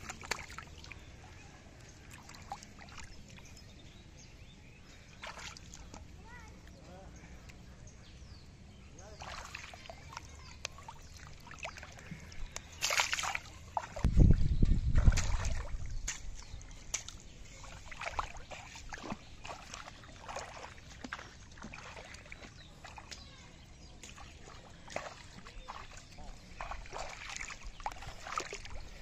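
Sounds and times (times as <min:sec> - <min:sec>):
muddy water sloshing: 0:00.0 - 0:07.7, 0:09.0 - 0:29.0.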